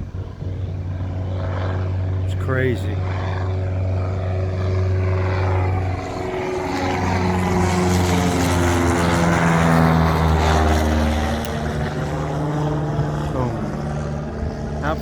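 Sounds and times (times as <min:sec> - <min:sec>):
propeller plane passing overhead: 0:00.0 - 0:15.0.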